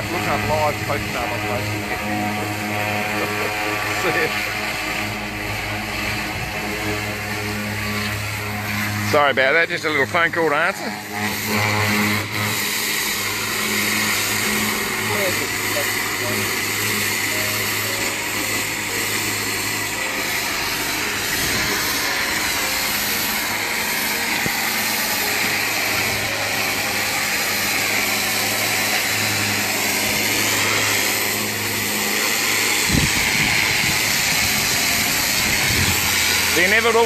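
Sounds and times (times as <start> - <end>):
pump motor humming: 0.0 - 37.0
water jet hissing on boat hull: 0.0 - 37.0.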